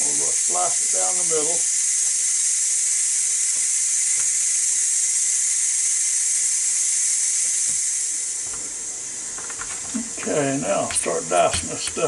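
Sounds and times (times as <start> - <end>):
pressure cooker steam hiss: 0.0 - 12.0.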